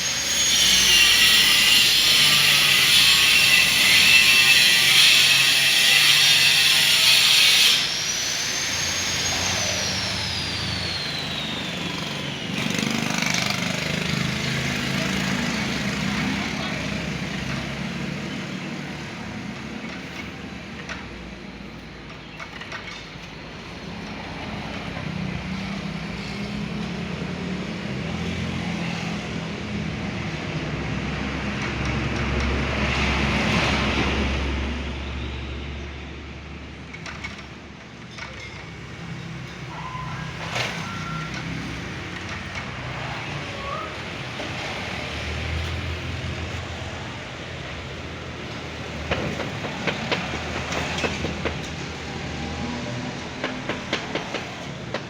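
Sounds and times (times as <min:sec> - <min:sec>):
vehicles passing rumble: 0:09.1 - 0:55.0.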